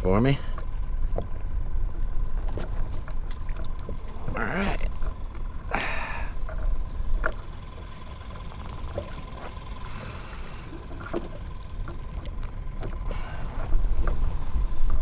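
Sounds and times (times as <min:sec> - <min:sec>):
small waves lapping against hull: 0:00.4 - 0:15.0.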